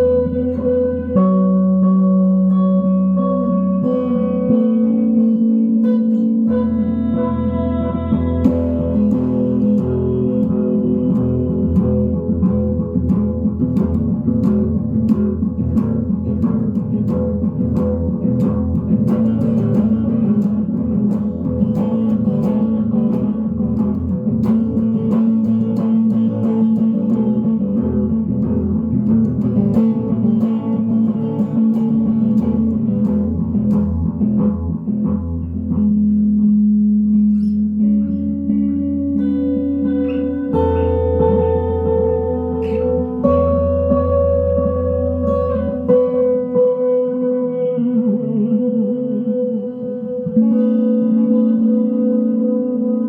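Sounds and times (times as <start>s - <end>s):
electric guitar with echo: 0.0s - 53.0s.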